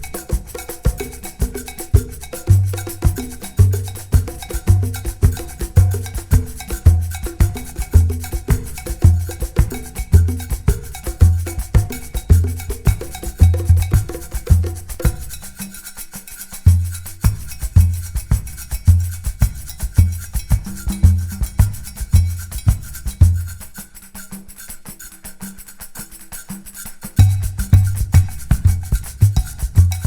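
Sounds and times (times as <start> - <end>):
cowbell-like percussion beat: 0.0 - 30.0.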